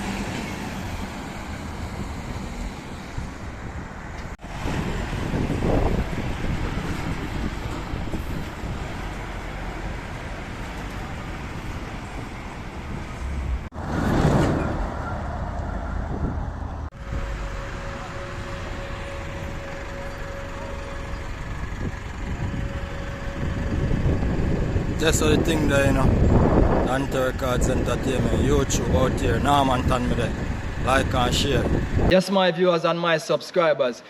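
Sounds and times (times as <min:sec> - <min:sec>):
road traffic passing: 0:00.0 - 0:32.1.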